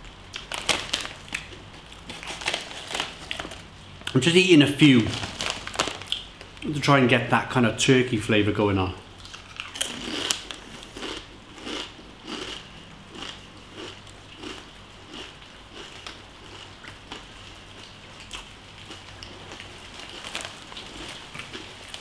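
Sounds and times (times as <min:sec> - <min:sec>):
chewing crunchy crisps: 0:00.3 - 0:06.7, 0:09.2 - 0:22.0.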